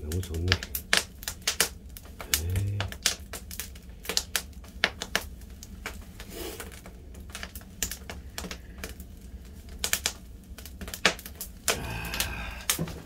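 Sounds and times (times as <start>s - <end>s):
firewood crackling and popping: 0.0s - 13.0s
low steady rumble: 0.0s - 13.0s.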